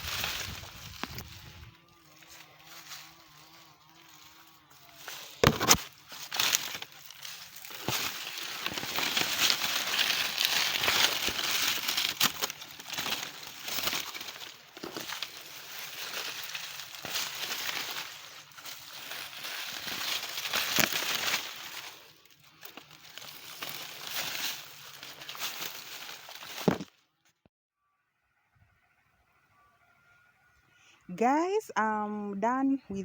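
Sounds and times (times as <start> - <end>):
dry plants crackling and rustling: 0.0 - 27.1.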